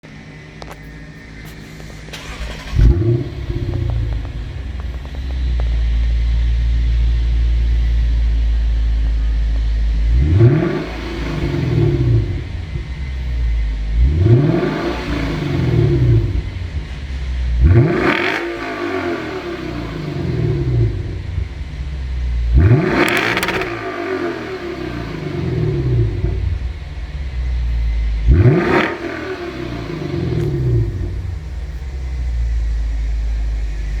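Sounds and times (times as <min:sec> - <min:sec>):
car engine revving: 0:00.2 - 0:34.0.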